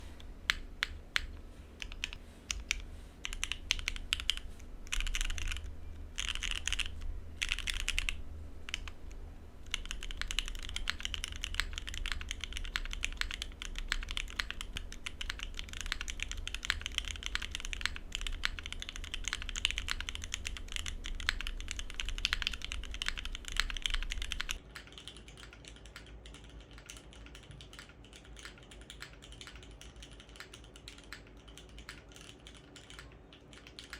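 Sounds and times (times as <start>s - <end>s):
mechanical keyboard typing: 0.5s - 33.9s.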